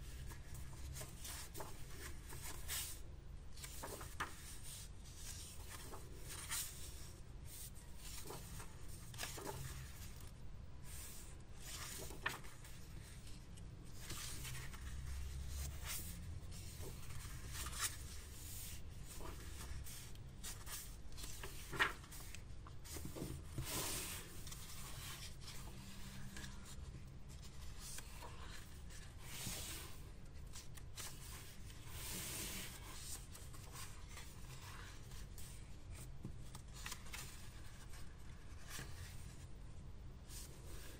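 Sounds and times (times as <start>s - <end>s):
sketchbook pages turning: 0.0s - 39.6s.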